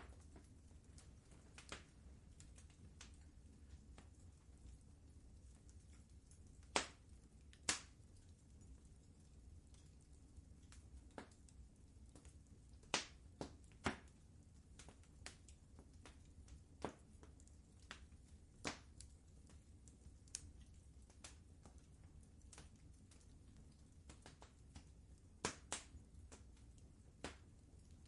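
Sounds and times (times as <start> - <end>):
low steady rumble: 0.0 - 28.0
wood fire crackling: 0.0 - 28.0.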